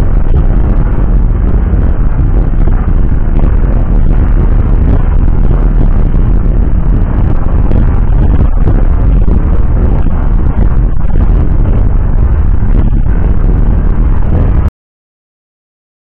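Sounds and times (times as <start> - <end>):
car road rumble on wet road: 0.0 - 14.7.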